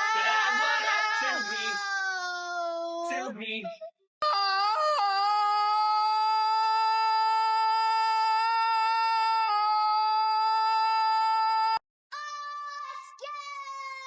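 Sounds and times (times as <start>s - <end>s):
boy screaming: 0.0s - 3.1s, 4.2s - 14.0s.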